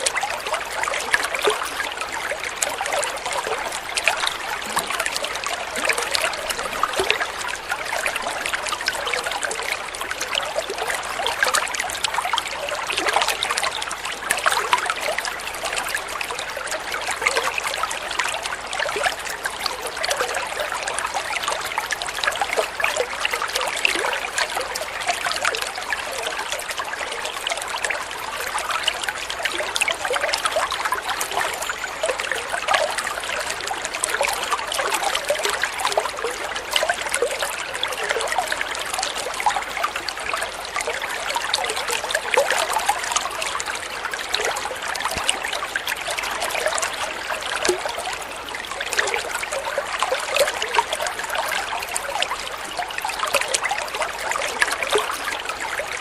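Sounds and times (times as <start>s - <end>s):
water trickling and babbling: 0.0s - 56.0s.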